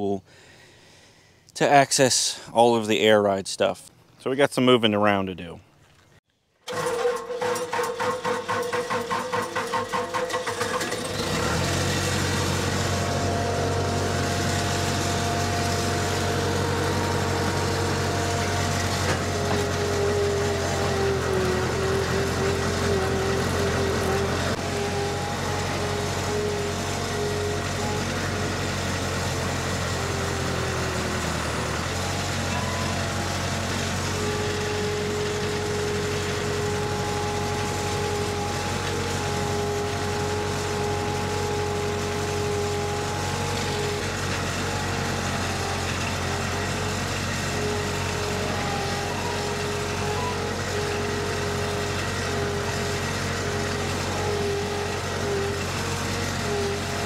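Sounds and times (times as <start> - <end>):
constant mechanical whine: 5.3 - 57.0
loader engine running: 6.7 - 57.0.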